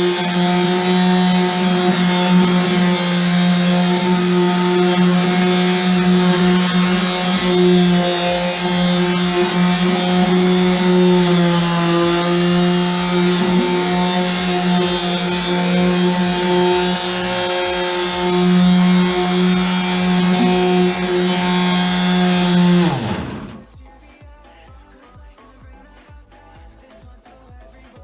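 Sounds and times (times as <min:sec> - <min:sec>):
electric sander running: 0:00.0 - 0:23.6.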